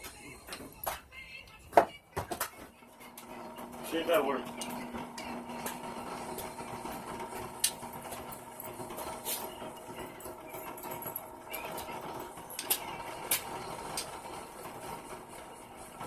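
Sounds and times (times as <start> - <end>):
small motor humming: 2.8 - 16.0.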